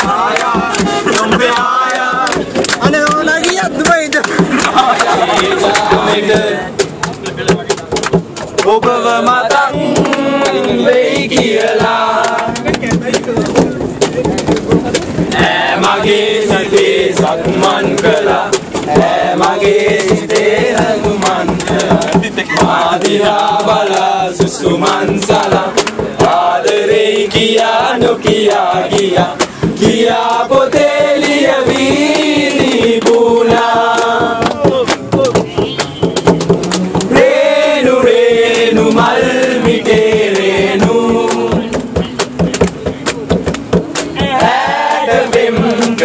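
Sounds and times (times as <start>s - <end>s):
young men singing together: 0.0s - 7.3s, 8.5s - 14.0s, 14.9s - 35.6s, 36.5s - 46.0s
fast beat of sharp hits: 0.0s - 46.0s.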